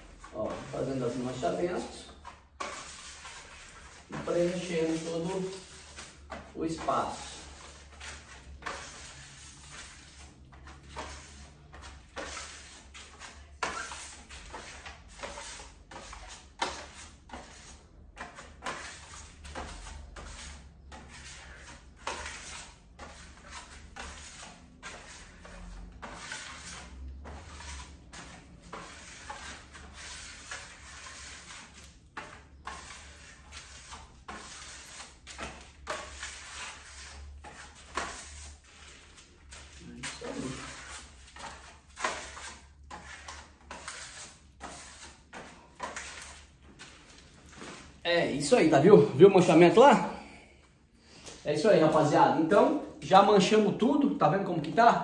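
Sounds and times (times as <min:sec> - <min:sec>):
painting tool scraping and dabbing wall: 0:00.0 - 0:50.4.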